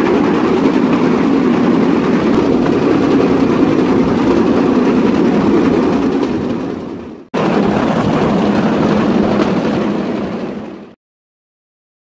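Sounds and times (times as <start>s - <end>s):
wheels on rail track: 0.0s - 11.0s.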